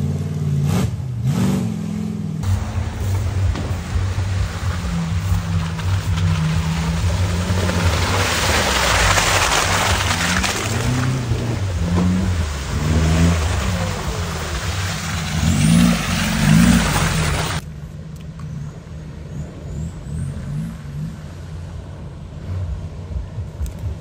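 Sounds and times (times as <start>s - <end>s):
off-road engine revving: 0.0s - 17.6s, 18.4s - 24.0s.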